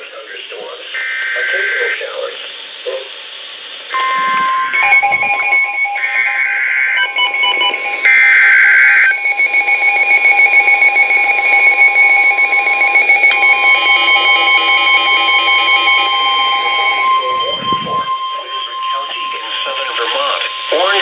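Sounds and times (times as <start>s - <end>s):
steady warning alarm tone: 0.0s - 3.1s, 3.9s - 21.0s
rapid beeping: 4.0s - 21.0s
screeching digital data bursts: 4.1s - 21.0s.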